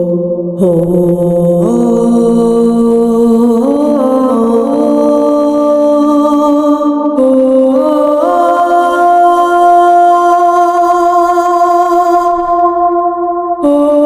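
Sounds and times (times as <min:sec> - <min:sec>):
held voice-like music notes: 0:00.0 - 0:14.0.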